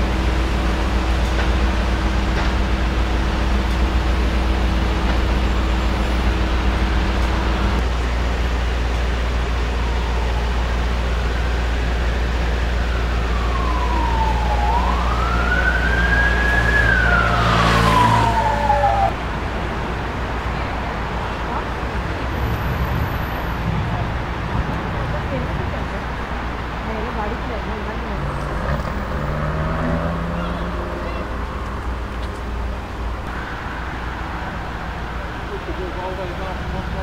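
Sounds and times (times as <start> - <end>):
emergency vehicle siren wailing: 0.0 - 25.2, 26.9 - 37.0
idling traffic engine hum: 0.0 - 37.0.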